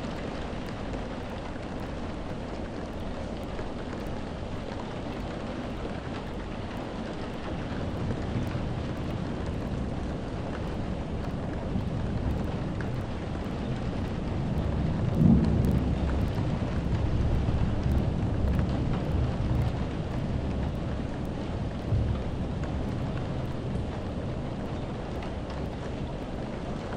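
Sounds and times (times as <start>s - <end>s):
steady rain: 0.0s - 26.9s
low rolling thunder: 0.2s - 26.9s.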